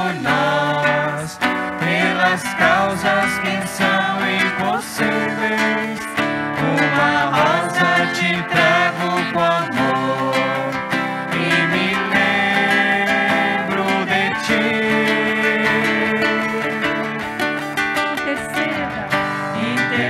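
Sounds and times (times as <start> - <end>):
acoustic guitar: 0.0 - 20.0
hymn singing: 0.0 - 20.0.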